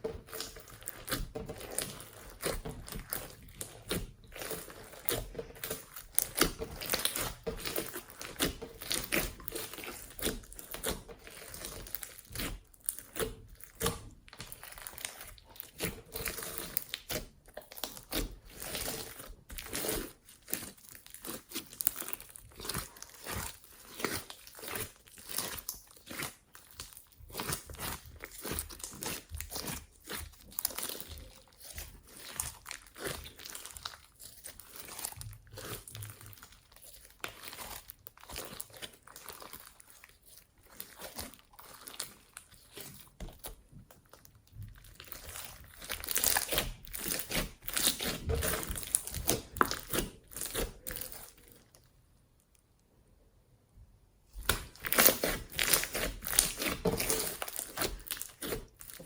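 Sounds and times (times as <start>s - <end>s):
slime squelching with wet crackles: 0.0s - 53.2s, 54.1s - 59.0s.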